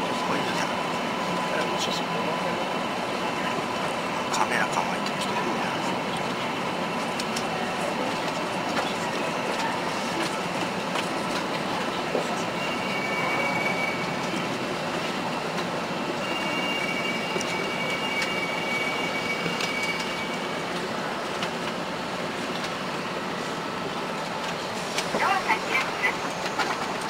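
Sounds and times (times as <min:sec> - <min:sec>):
train running noise: 0:00.0 - 0:27.0.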